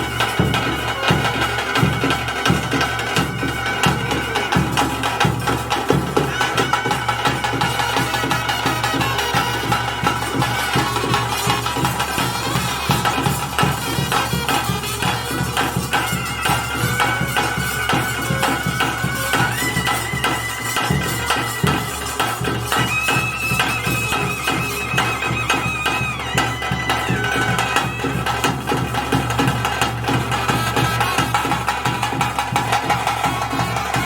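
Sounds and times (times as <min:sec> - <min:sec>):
fast continuous drumming: 0:00.0 - 0:34.0.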